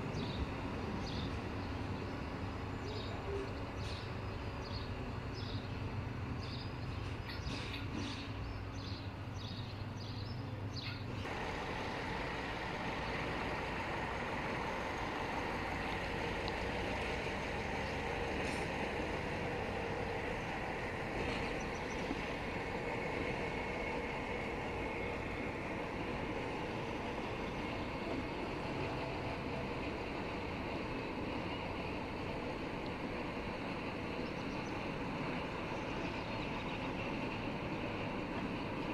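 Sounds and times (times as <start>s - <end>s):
birdsong: 0.0s - 11.5s, 12.4s - 38.9s
diesel locomotive engine drone: 0.0s - 38.9s.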